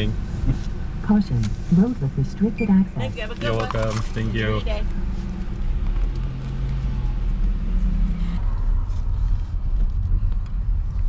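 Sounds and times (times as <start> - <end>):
engine and road noise rumble: 0.0 - 11.0.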